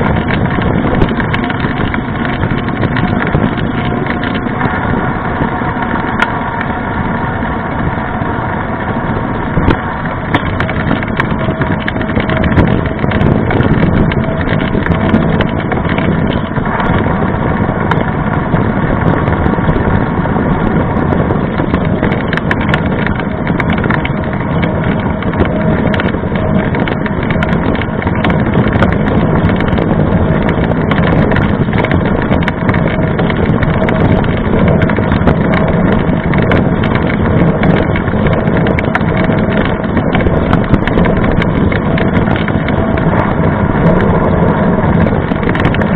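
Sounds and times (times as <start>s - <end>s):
bike tyre rolling on asphalt: 0.0s - 45.9s.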